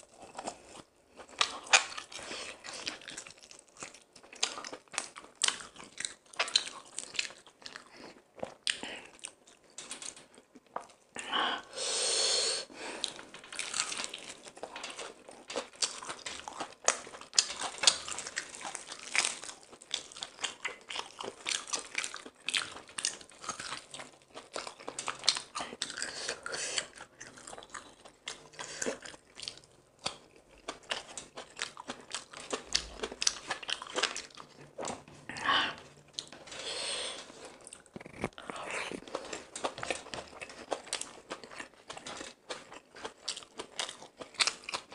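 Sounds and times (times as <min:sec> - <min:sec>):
man chewing crunchy food: 0:00.0 - 0:11.3, 0:12.6 - 0:44.9.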